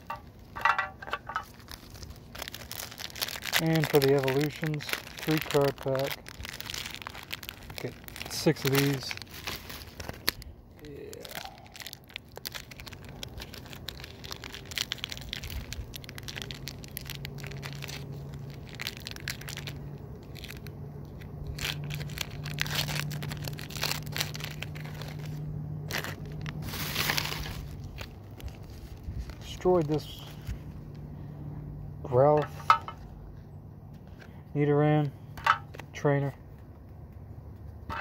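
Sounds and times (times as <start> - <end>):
foil wrappers crinkling and tearing: 0.0 - 31.3
low steady hum: 0.0 - 38.0.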